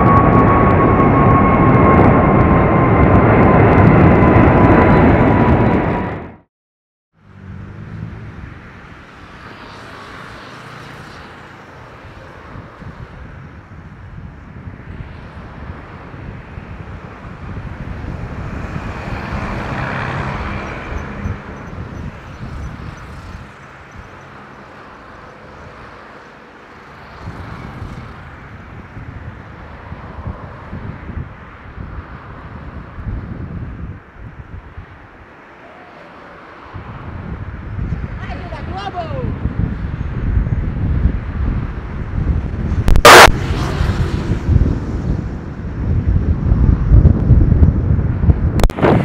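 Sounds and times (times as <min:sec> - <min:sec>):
distant jet rumble: 0:00.0 - 0:06.5, 0:07.6 - 0:49.0
wind on microphone: 0:00.0 - 0:06.5, 0:11.2 - 0:26.3, 0:26.9 - 0:49.0.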